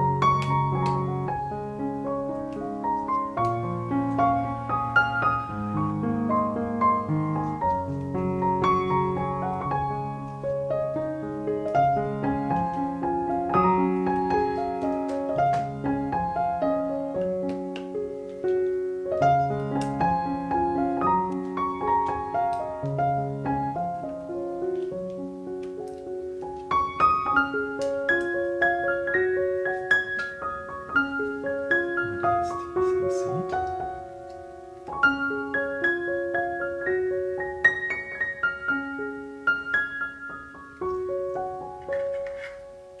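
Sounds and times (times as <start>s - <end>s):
slow piano music: 0.0s - 43.0s.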